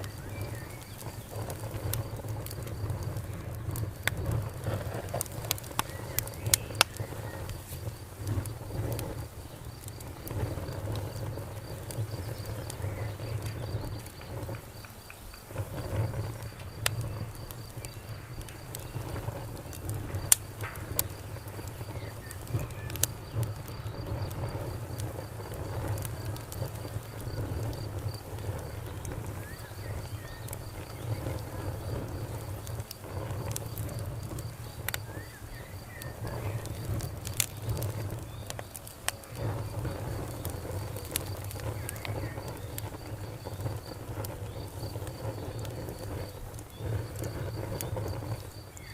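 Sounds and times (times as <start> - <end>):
cricket chirping: 0.0 - 48.9
fire crackling and popping: 0.0 - 48.9.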